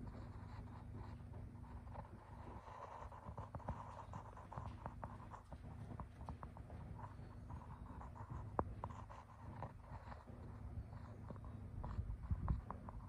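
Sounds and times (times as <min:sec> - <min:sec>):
horse hoofbeats on sand: 0:00.0 - 0:13.0
steady low hum: 0:00.0 - 0:13.0.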